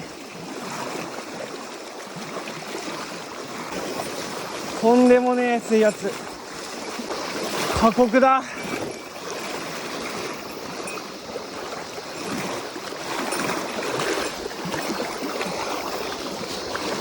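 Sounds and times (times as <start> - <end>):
mountain stream rushing: 0.0 - 17.0.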